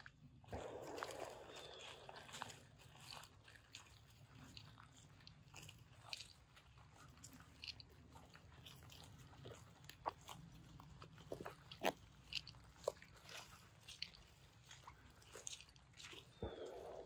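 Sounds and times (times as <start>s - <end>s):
footsteps on dry pine straw: 0.5s - 17.0s.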